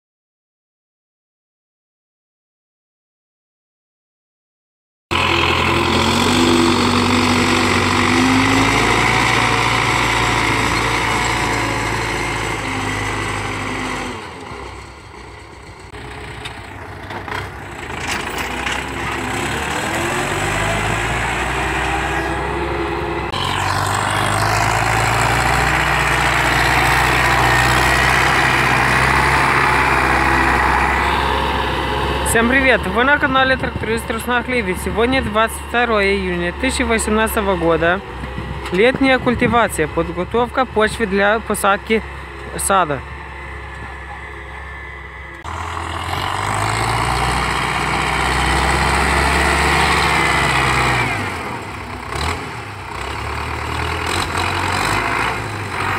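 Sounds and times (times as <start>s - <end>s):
tractor diesel engine under load: 5.1s - 55.9s.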